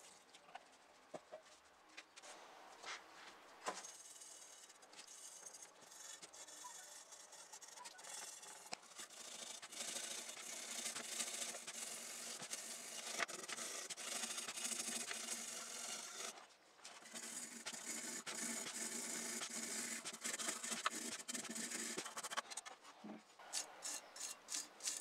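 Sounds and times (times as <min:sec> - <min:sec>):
scratchy rubbing on metal: 0:03.7 - 0:25.0.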